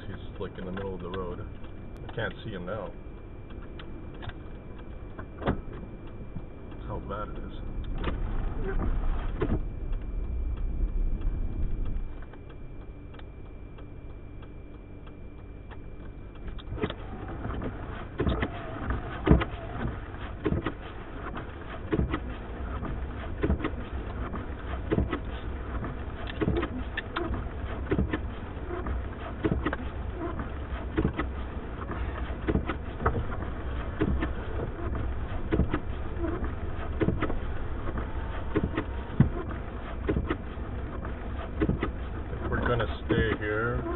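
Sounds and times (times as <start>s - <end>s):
wind gusting against car: 3.8s - 12.4s, 16.5s - 43.9s.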